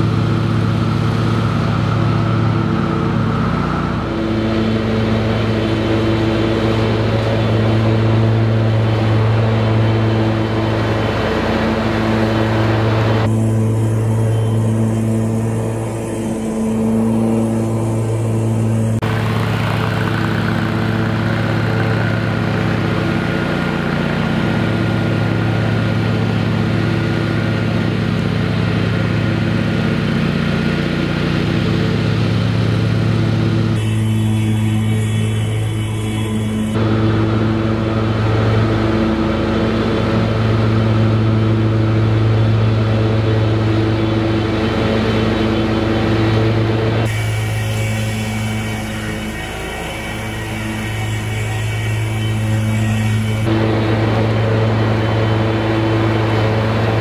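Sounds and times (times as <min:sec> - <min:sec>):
mower engine drone: 0:00.0 - 0:57.0.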